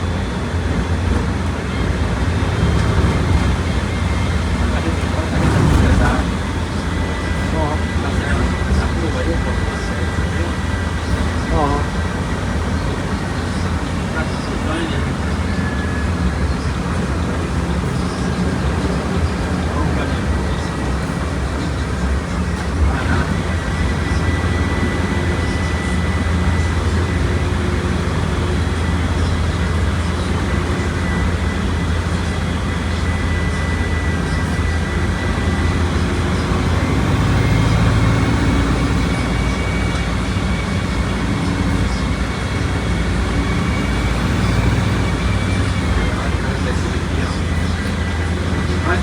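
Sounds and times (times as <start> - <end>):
bus engine drone with whine: 0.0 - 49.0.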